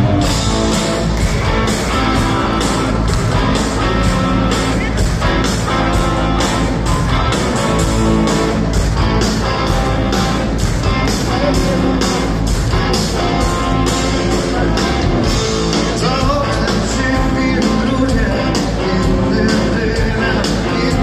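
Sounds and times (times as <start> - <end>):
bass and drums: 0.0 - 21.0
electric guitar: 0.0 - 21.0.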